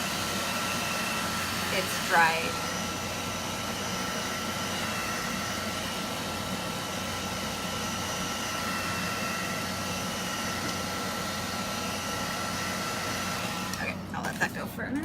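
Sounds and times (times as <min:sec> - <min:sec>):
hot-air dryer blowing: 0:00.0 - 0:14.6.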